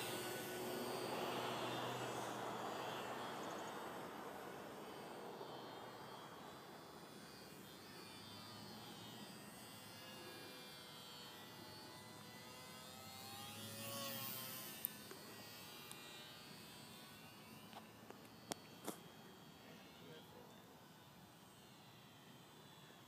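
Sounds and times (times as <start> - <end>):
model plane propeller buzzing: 0.0 - 23.0.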